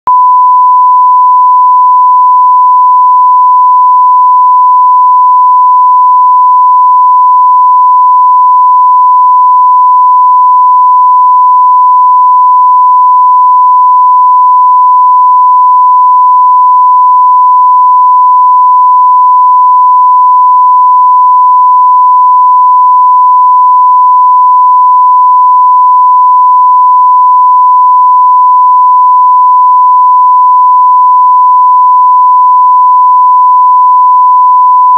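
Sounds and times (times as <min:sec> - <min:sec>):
censor bleep tone: 0:00.0 - 0:34.9.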